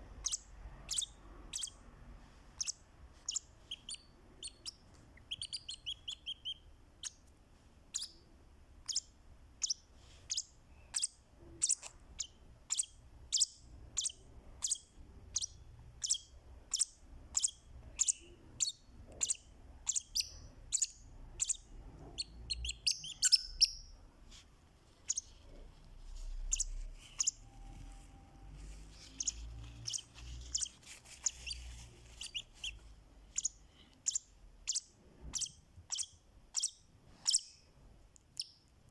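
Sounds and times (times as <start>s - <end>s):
lovebird chirping: 0.0s - 7.2s, 7.9s - 24.1s, 24.9s - 37.7s, 38.3s - 38.7s.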